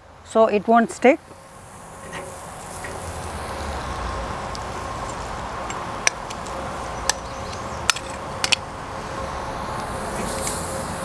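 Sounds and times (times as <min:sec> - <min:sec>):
meat sizzling on a grill: 0:01.3 - 0:11.0.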